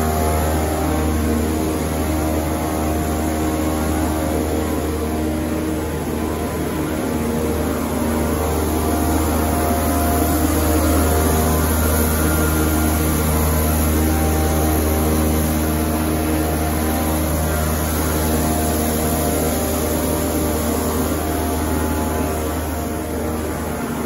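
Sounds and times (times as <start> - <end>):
machine drone with low hum: 0.0 - 24.0
steady machine tones: 0.0 - 24.0.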